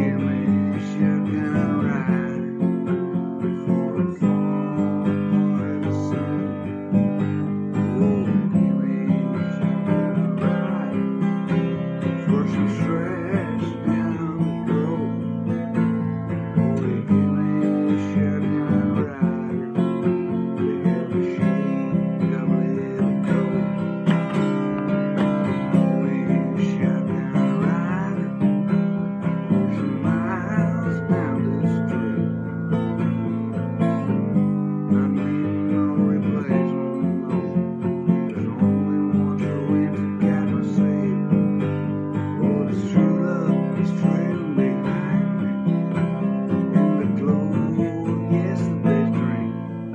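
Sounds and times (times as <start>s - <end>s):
acoustic guitar strumming: 0.0s - 49.9s
man singing: 0.0s - 49.9s.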